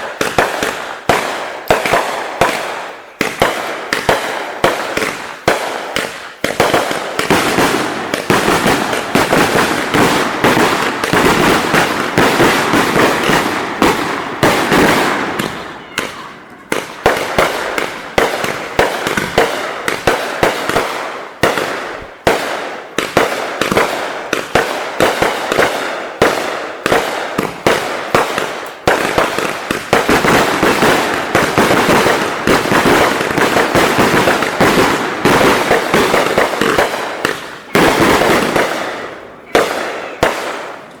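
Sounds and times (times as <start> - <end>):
fireworks crackling and banging: 0.0 - 41.0.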